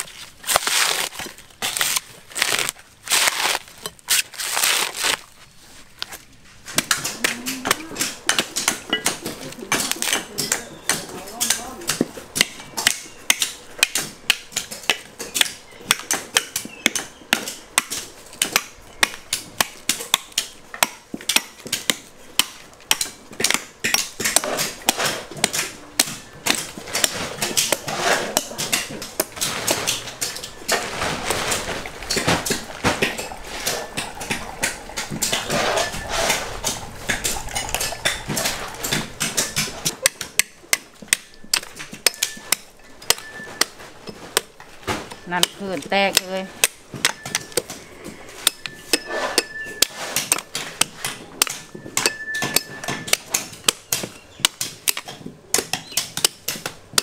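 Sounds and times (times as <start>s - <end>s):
knife chopping coconut shell: 6.7s - 30.6s, 32.2s - 57.0s.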